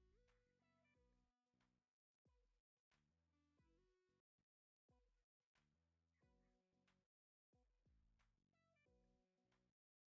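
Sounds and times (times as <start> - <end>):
faint background music: 0.0 - 9.8.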